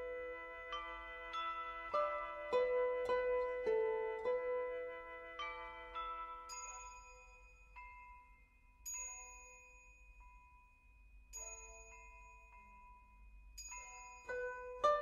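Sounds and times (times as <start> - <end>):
bell-like struck notes: 0.0 - 10.6, 11.3 - 15.0.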